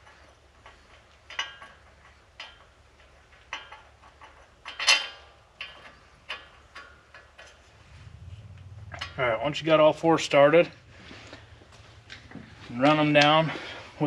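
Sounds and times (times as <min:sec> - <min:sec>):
metal bolts clinking and rattling: 0:00.0 - 0:14.0.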